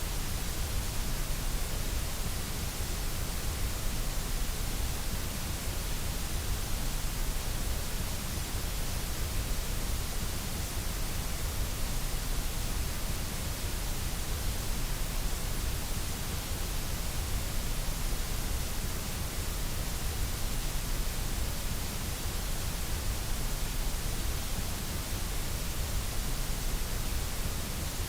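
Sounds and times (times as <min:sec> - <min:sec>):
white noise hiss: 0:00.0 - 0:28.0.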